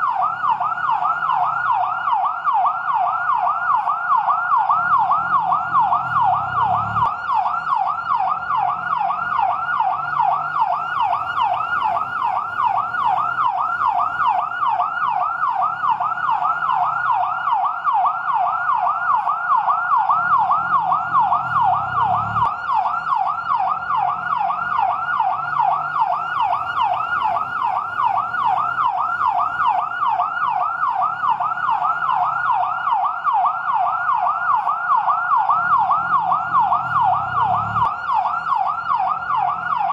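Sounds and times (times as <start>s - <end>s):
fire truck yelp siren: 0.0s - 39.9s.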